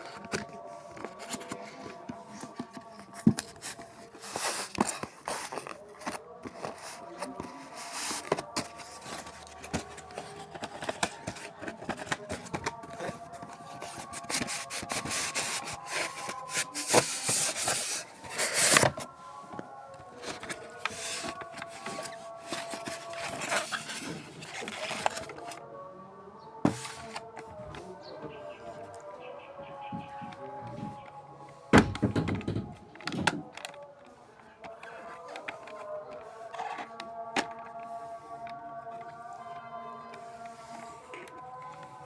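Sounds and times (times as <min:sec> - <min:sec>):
packaging rustling and scraping: 0:00.0 - 0:29.1, 0:30.1 - 0:42.0.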